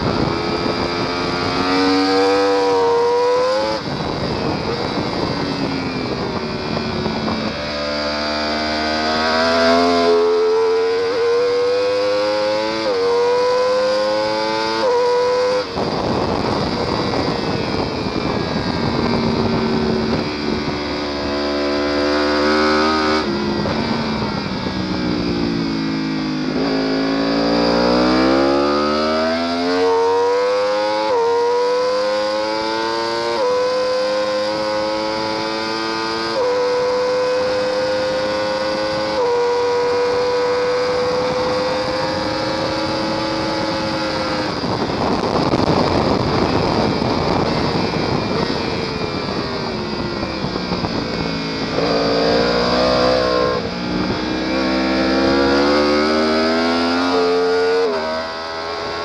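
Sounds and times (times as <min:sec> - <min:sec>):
motorcycle engine revving: 0:00.0 - 0:59.0
rushing wind noise: 0:00.0 - 0:59.0.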